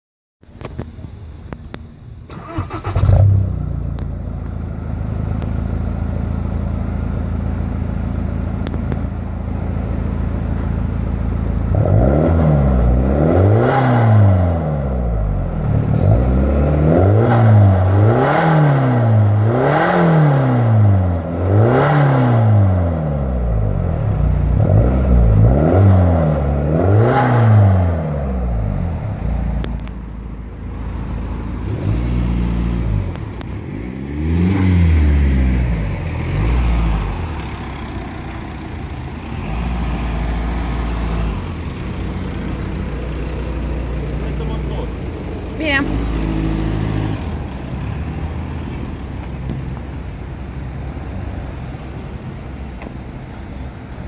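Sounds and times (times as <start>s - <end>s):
diesel car engine revving: 2.3s - 52.9s.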